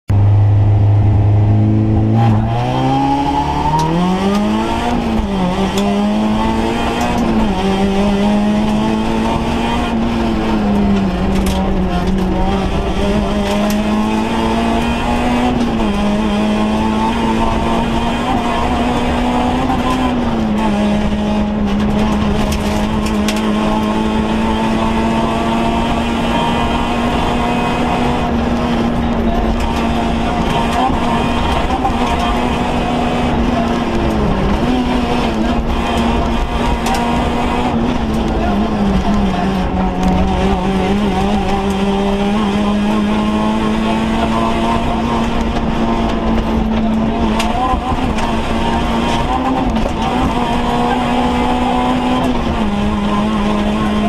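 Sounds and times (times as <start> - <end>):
rally car engine accelerating: 0.1 - 54.0
road and cabin noise: 0.1 - 54.0.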